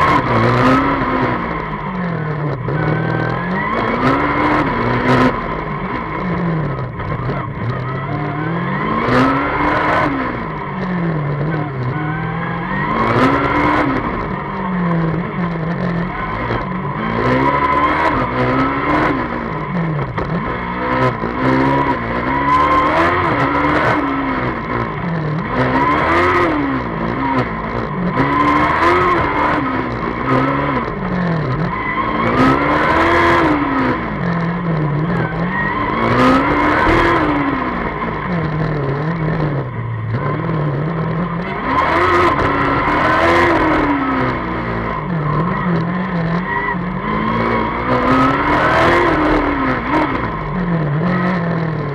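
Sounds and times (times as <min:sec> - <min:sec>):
race car engine revving: 0:00.0 - 0:51.9.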